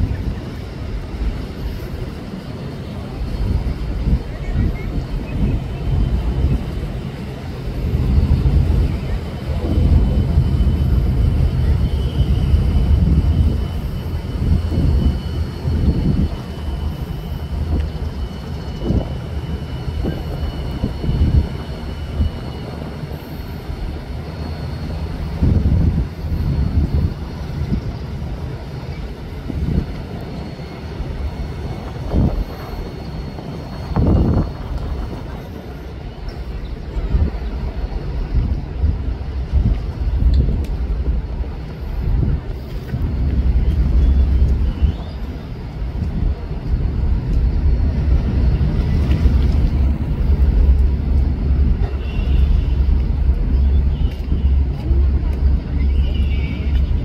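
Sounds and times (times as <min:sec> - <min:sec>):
ferry engines rumbling: 0:00.0 - 0:57.0
wind buffeting microphone: 0:00.0 - 0:57.0.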